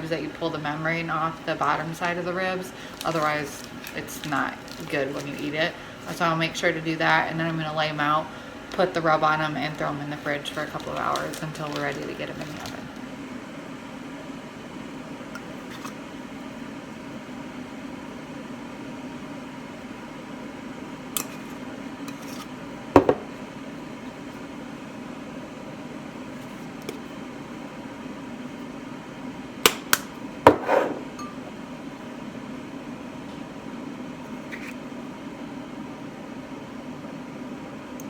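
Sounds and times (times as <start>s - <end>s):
low appliance hum: 0.0s - 38.0s.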